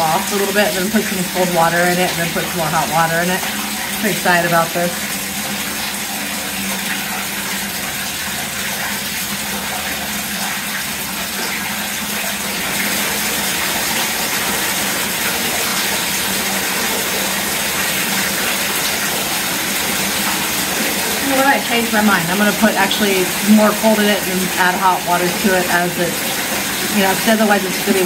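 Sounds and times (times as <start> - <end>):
tap water gushing into bathtub: 0.0 - 28.0.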